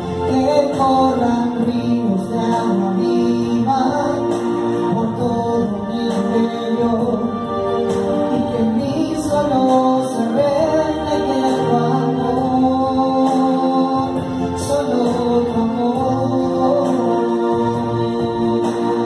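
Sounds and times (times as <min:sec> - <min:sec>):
electronic keyboard chords: 0:00.0 - 0:19.0.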